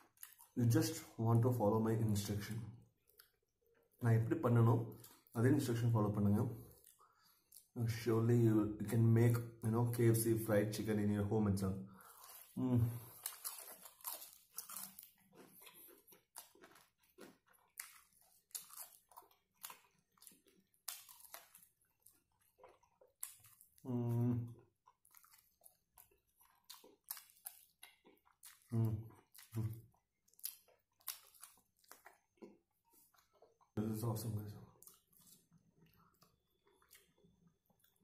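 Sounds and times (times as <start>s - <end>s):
chewing crispy fried chicken: 0.0s - 1.3s, 2.5s - 5.5s, 6.2s - 7.8s, 11.9s - 38.0s.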